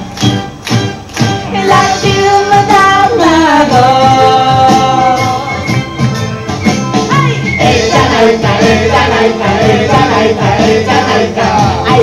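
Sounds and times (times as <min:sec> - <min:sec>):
festival music over speakers: 0:00.0 - 0:12.0.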